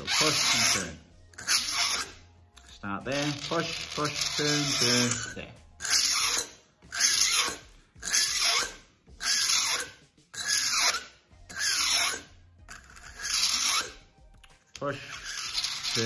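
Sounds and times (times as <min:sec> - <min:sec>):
hand file rasping on plastic: 0:00.0 - 0:02.2, 0:03.2 - 0:14.1, 0:14.9 - 0:16.0.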